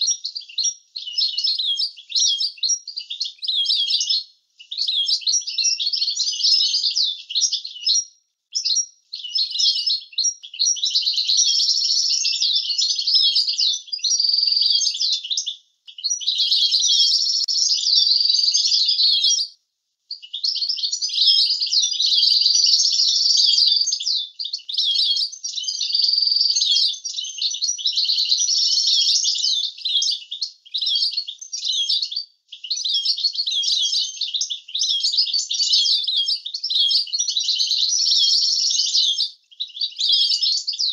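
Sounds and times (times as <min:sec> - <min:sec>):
finch twittering song: 0:00.0 - 0:40.9.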